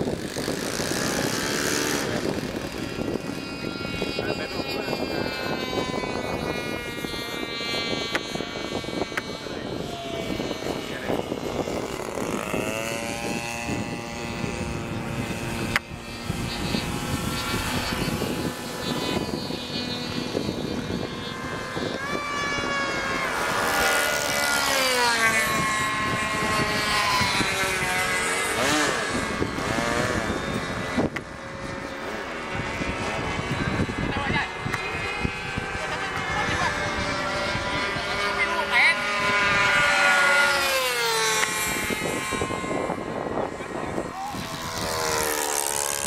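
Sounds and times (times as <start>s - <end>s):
model airplane motors buzzing: 0.0s - 46.0s.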